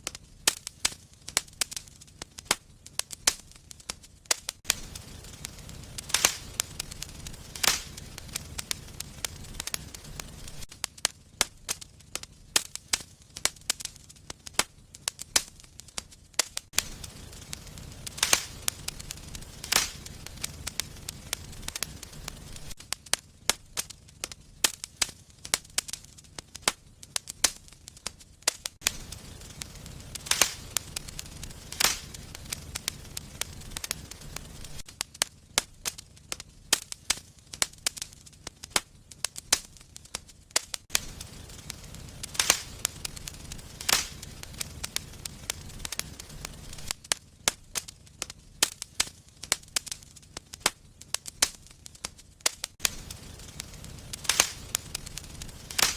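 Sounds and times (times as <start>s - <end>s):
low rumble of flame: 0.0s - 55.9s
wood fire crackling: 0.0s - 55.9s.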